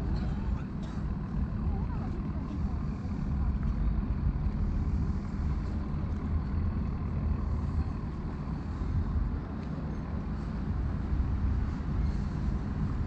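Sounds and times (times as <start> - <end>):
city street traffic rumble: 0.0 - 13.0.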